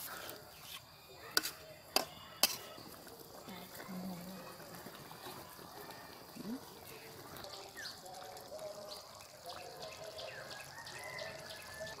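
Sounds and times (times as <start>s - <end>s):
curry simmering with bubbling plops: 0.0s - 12.0s.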